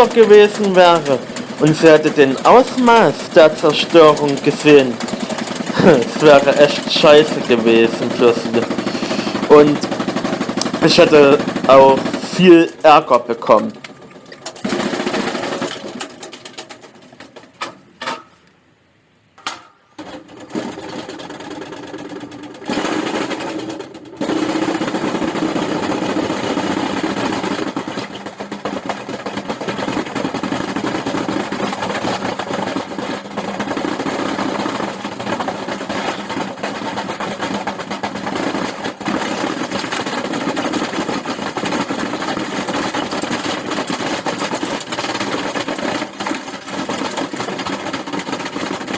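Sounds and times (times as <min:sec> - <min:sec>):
washing machine rattling and banging: 0:00.0 - 0:18.5, 0:19.4 - 0:48.9.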